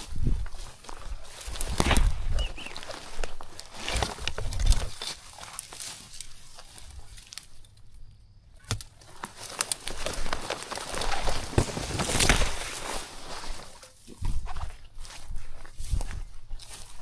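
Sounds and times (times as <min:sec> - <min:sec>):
footsteps through dry bush: 0:00.0 - 0:17.0
twigs and leaves crackling: 0:00.0 - 0:17.0.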